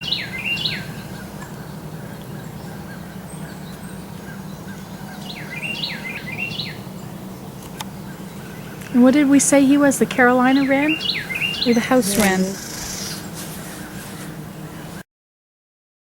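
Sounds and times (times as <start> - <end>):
steady low hum: 0.0 - 15.0
wren singing: 0.0 - 15.0.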